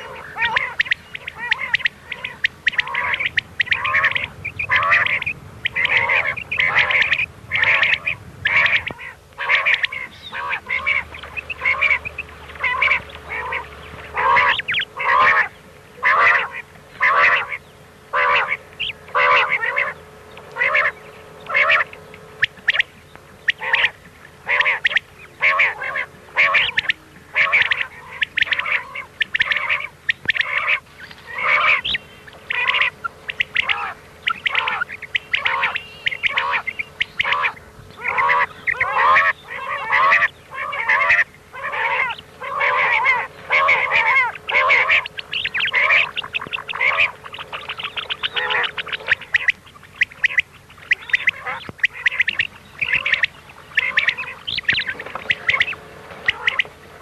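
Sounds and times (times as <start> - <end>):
faint steady hum: 0.0 - 57.0
quail calls: 0.0 - 57.0.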